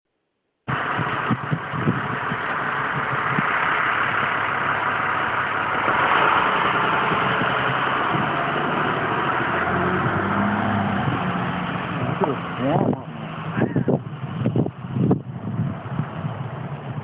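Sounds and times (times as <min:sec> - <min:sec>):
engine humming: 0:00.7 - 0:17.0.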